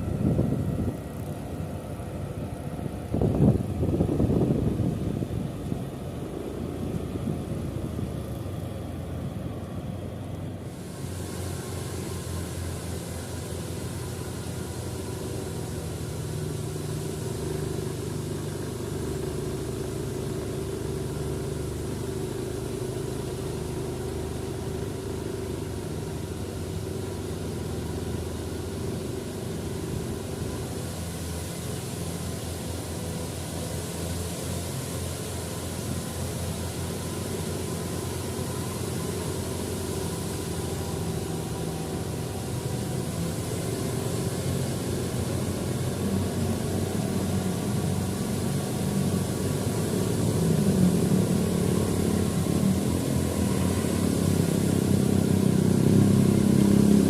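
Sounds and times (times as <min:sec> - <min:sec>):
diesel engine running: 0:00.0 - 0:57.0
hiss: 0:10.7 - 0:57.0.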